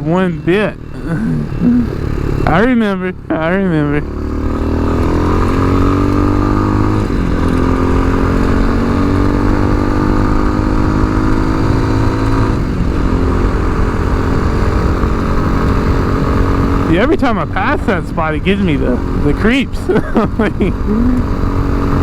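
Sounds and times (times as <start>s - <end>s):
low wind rumble: 0.0s - 22.0s
motorcycle engine accelerating: 0.0s - 22.0s.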